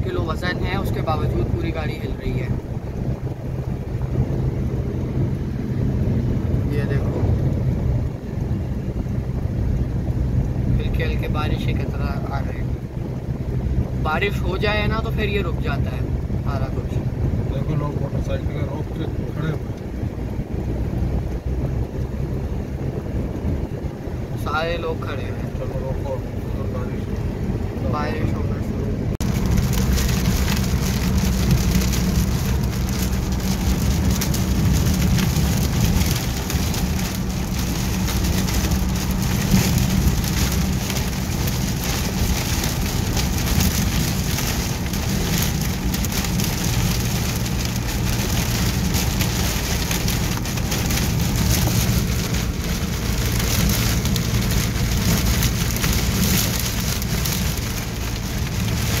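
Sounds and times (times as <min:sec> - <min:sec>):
engine and road rumble: 0:00.0 - 0:59.0
gusting wind: 0:00.0 - 0:59.0
rain on windscreen and roof: 0:00.0 - 0:59.0.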